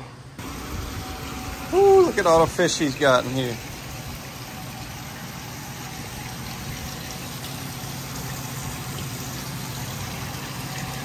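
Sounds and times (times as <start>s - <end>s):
running water rushing: 0.4s - 11.0s.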